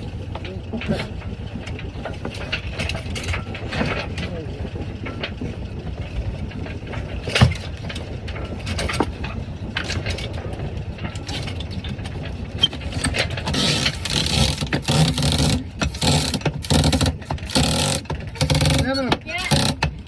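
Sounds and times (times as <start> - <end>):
boat motor rumbling: 0.0 - 20.0
rigging clicks and knocks: 0.0 - 20.0.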